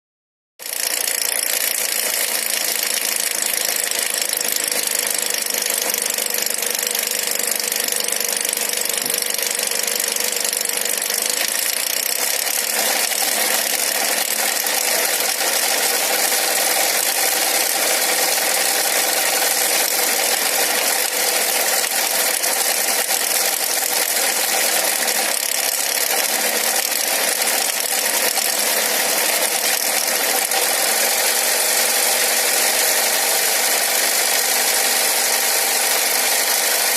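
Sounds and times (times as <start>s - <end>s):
engine knocking: 0.6s - 36.9s
car engine running: 0.8s - 36.9s.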